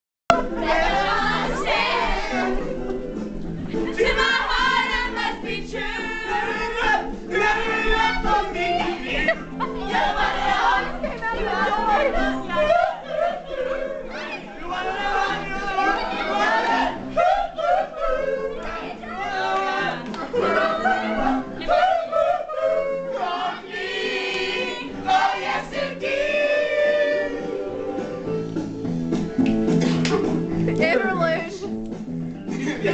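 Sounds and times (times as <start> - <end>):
group singing: 0.3 - 28.5
karaoke backing track: 0.3 - 32.9.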